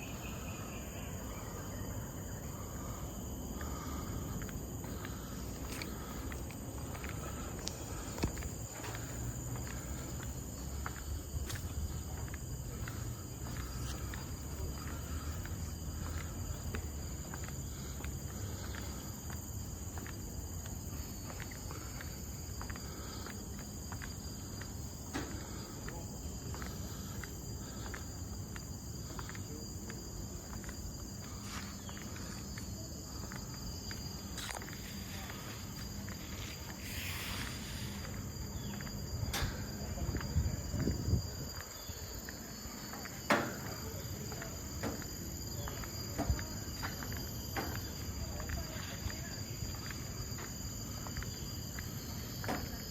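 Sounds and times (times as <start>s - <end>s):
insects droning: 0.0s - 52.9s
footsteps walking: 2.6s - 52.9s.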